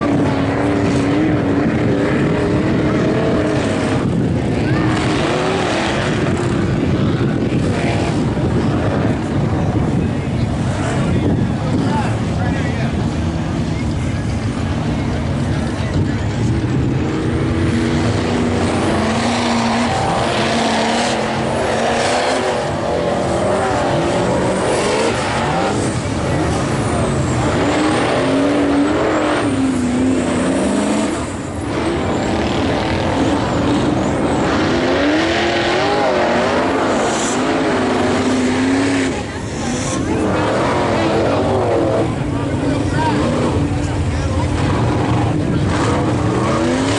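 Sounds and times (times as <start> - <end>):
constant rushing noise: 0.0 - 46.9
truck engine revving hard: 0.0 - 46.9.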